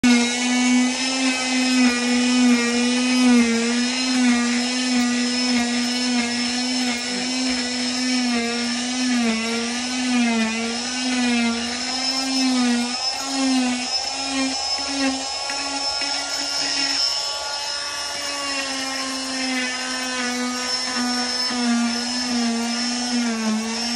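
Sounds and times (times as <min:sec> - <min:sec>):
cast saw whining: 0:00.0 - 0:23.9.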